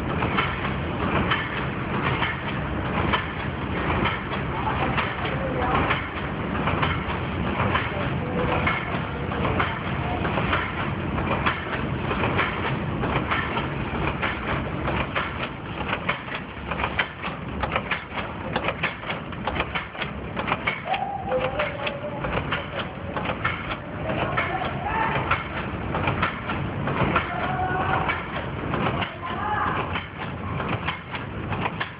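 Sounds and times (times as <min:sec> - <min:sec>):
low mechanical rumble: 0:00.0 - 0:31.9
machine clattering metallic clicks: 0:00.1 - 0:31.9.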